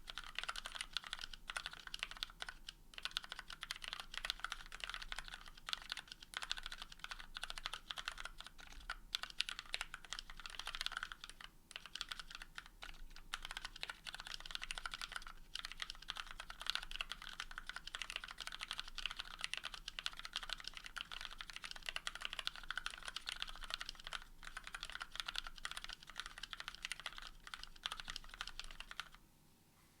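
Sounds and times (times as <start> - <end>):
mechanical keyboard typing: 0.0 - 29.2.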